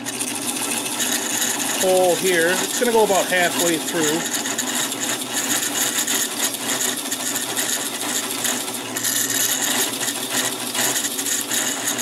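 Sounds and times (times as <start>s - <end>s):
drill bit cutting wood hiss: 0.0s - 12.0s
drill press motor hum: 0.0s - 12.0s.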